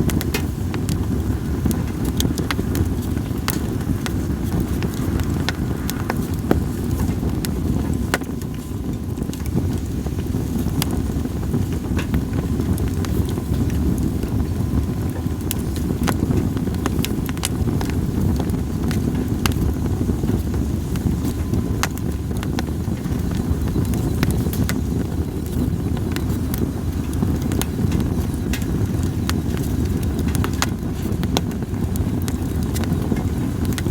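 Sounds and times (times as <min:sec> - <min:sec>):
firewood crackling and popping: 0:00.0 - 0:33.9
low fire rumble: 0:00.0 - 0:33.9.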